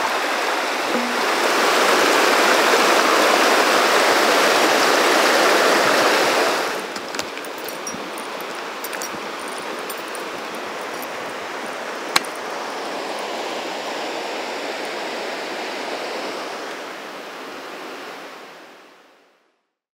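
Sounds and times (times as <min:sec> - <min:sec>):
river rushing over boulders: 0:00.0 - 0:18.8.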